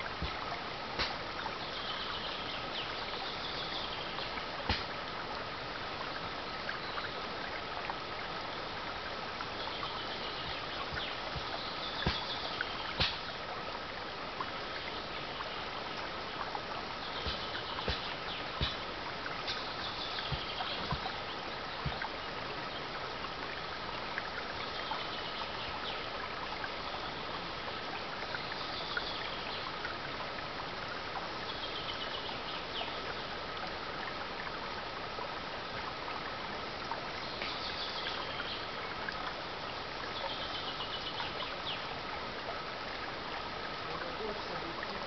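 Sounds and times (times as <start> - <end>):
stream flowing over stones: 0.0 - 45.0.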